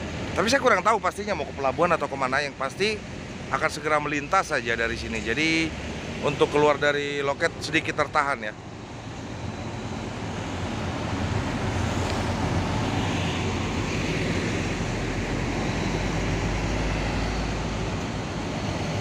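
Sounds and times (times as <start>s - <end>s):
low engine rumble: 0.0s - 19.0s
road traffic noise: 0.0s - 19.0s.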